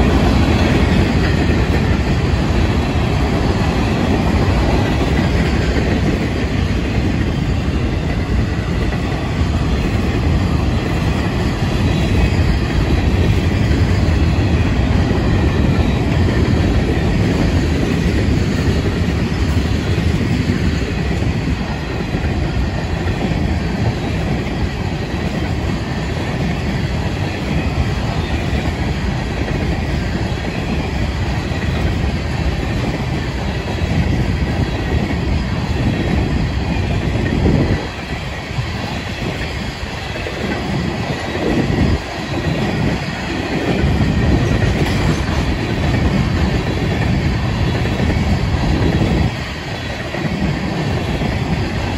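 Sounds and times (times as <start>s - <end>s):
steel wheels on rails: 0.0s - 51.9s.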